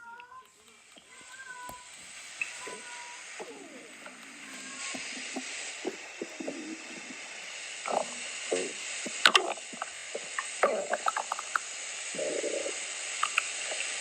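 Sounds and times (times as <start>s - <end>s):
sharp crackle: 0.0s - 14.0s
steady hiss: 0.0s - 14.0s
stomach growling and gurgling: 2.3s - 14.0s.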